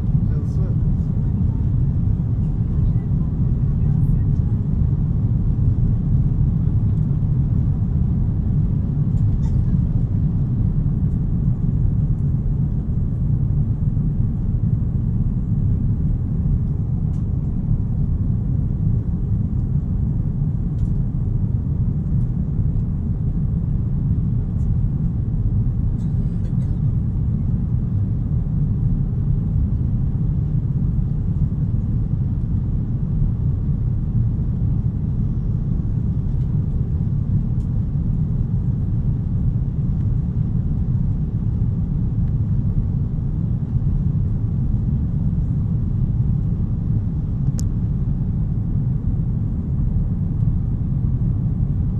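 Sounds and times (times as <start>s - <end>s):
jet engine rumble in cabin: 0.0s - 51.9s.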